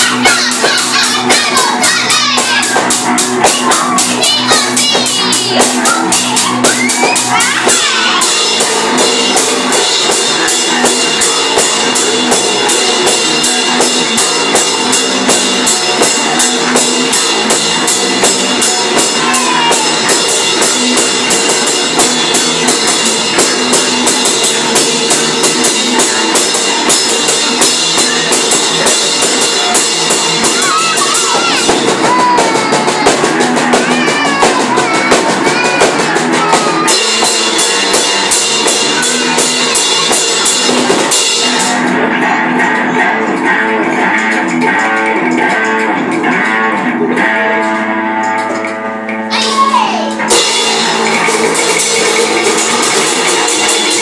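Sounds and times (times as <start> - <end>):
drum kit beat: 0.0 - 54.0
electric bass: 0.0 - 54.0.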